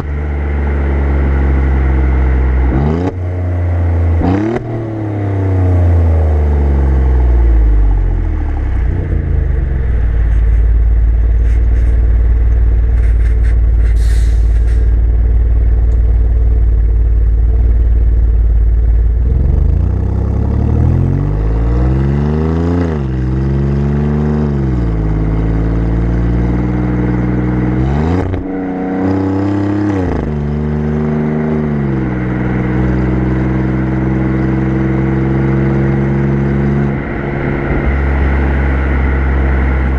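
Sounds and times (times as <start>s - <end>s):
car exhaust rumble: 0.0s - 39.9s.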